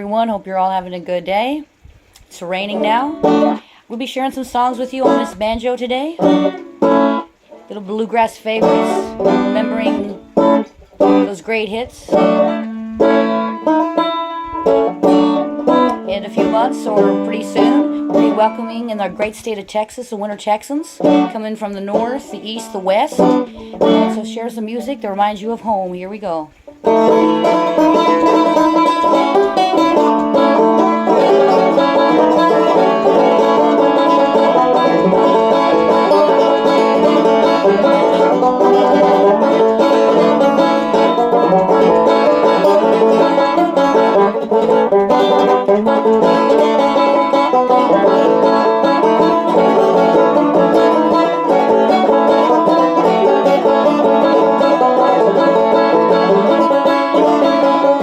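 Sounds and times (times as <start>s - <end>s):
banjo picking: 0.0s - 58.0s.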